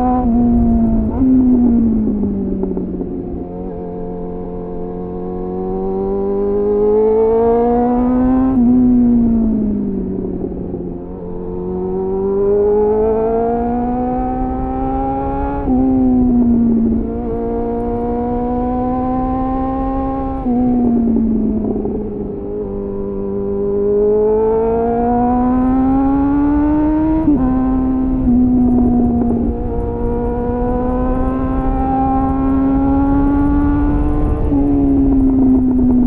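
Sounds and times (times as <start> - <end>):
motorcycle engine accelerating: 0.0 - 36.0
wind and road noise: 0.0 - 36.0.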